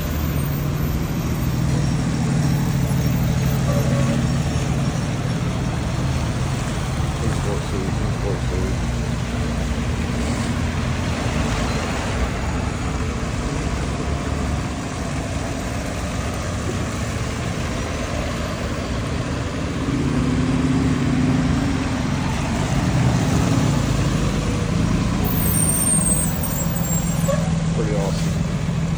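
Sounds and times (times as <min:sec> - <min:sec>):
bus engines running: 0:00.0 - 0:28.9.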